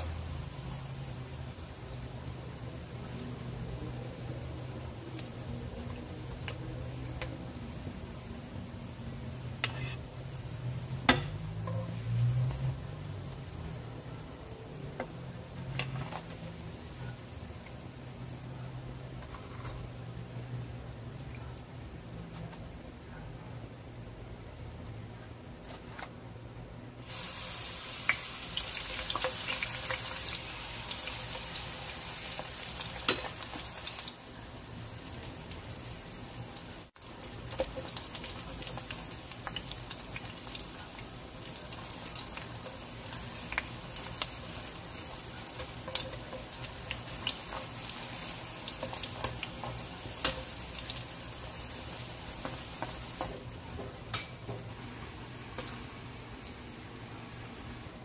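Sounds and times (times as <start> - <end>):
leaves frying in hot oil: 0.0 - 22.8, 26.9 - 58.0.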